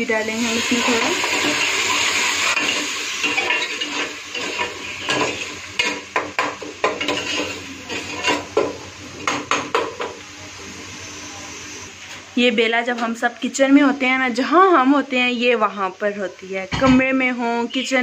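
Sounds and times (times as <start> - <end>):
water sizzling in pot: 0.0 - 18.0.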